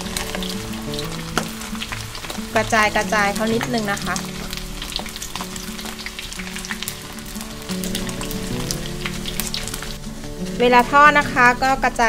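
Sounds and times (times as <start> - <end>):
background music: 0.0 - 12.0
chicken deep-frying in oil: 0.0 - 12.0.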